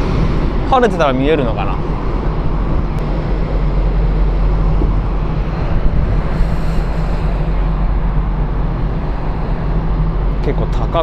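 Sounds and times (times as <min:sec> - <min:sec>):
ferry engines droning: 0:00.0 - 0:11.0
wind rushing: 0:00.0 - 0:11.0.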